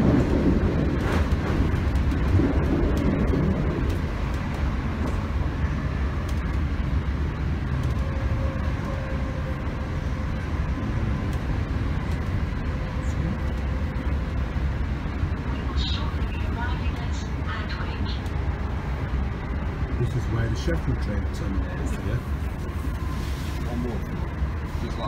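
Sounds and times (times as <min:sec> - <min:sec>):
train rumble with track noise: 0:00.0 - 0:25.0.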